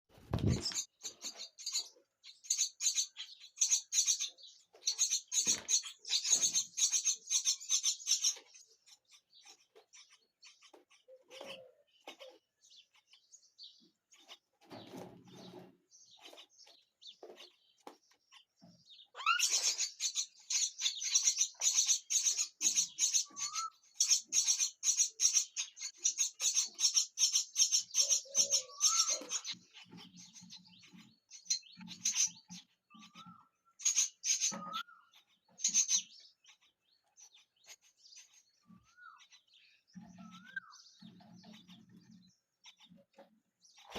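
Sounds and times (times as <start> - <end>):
baby birds chirping harshly: 0.1 - 43.9.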